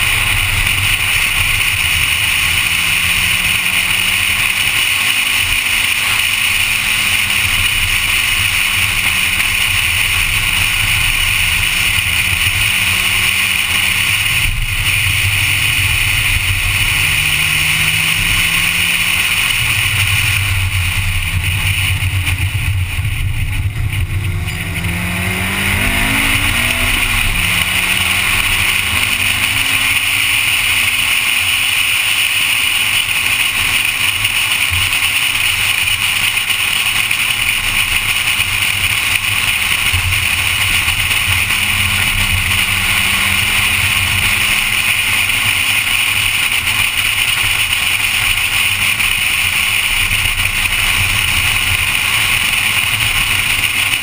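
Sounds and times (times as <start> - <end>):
car engine accelerating: 0.0 - 54.0
loud rush of noise: 0.0 - 54.0.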